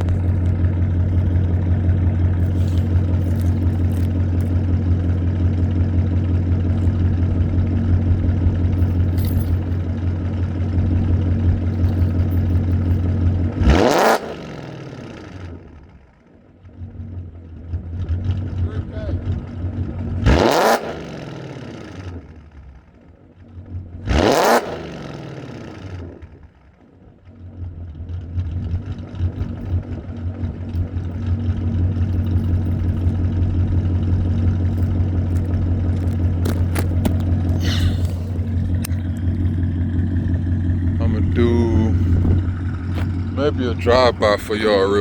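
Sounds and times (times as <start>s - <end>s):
car engine revving: 0.0s - 15.6s, 17.7s - 22.3s, 23.7s - 26.3s, 27.6s - 45.0s
car engine idling: 0.0s - 45.0s.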